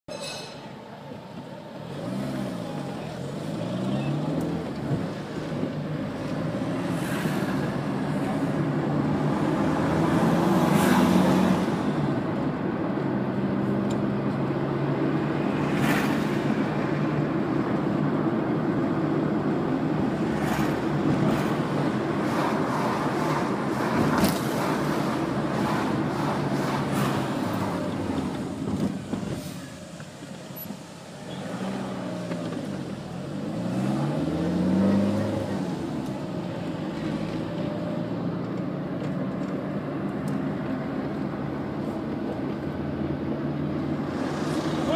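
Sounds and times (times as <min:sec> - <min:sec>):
road noise: 0:00.0 - 0:44.9
car engine: 0:00.5 - 0:44.9.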